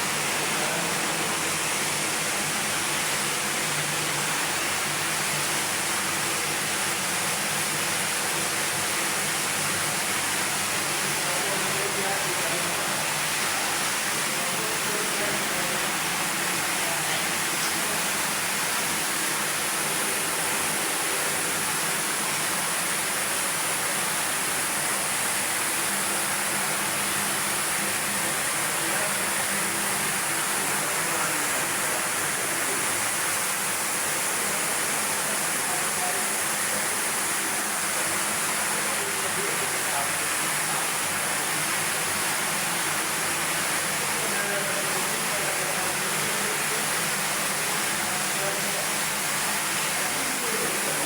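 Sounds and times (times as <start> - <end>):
steady hiss: 9.2 - 51.0.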